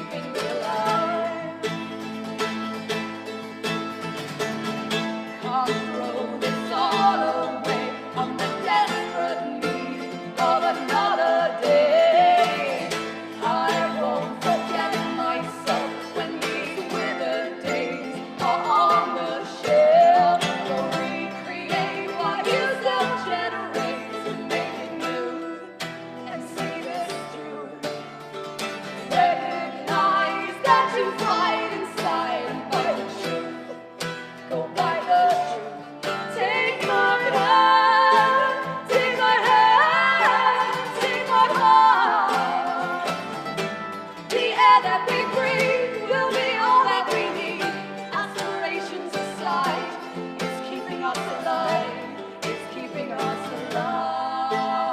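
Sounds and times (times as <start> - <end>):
plucked acoustic guitars: 0.0 - 54.9.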